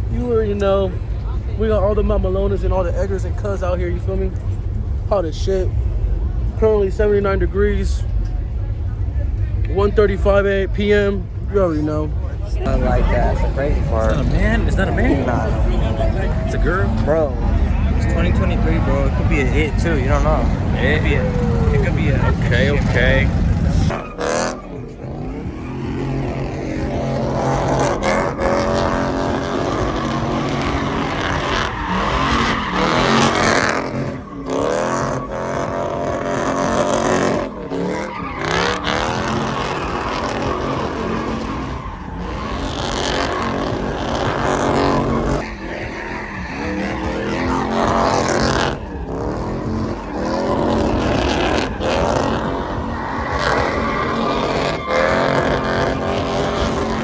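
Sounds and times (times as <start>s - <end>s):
dense noisy background: 0.0s - 57.0s
truck engines revving: 0.0s - 57.0s.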